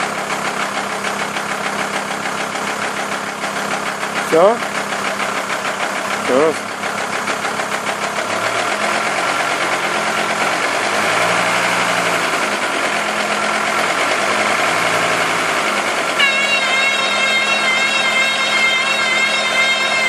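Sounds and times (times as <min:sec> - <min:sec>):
wheel bearing drone: 0:00.0 - 0:20.0
car cabin and road noise: 0:01.8 - 0:20.0.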